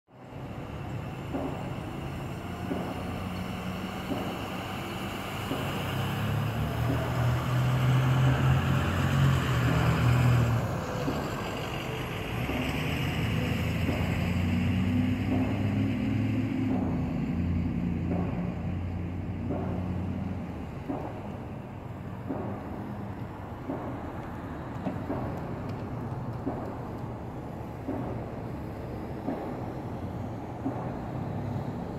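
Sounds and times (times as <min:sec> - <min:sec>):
vehicles driving past: 0:00.1 - 0:31.9.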